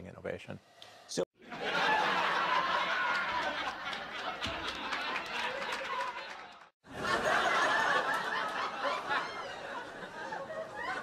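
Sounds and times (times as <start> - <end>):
audience laughing and chattering: 1.5 - 11.0.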